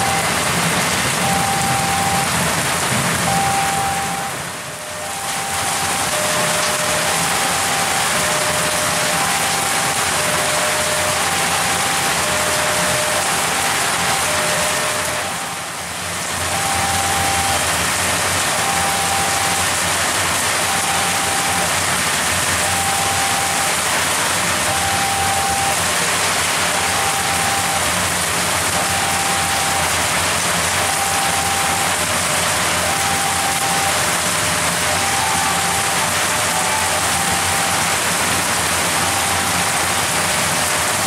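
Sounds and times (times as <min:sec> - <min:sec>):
heavy rain pouring: 0:00.0 - 0:41.0
level crossing alarm: 0:00.0 - 0:41.0.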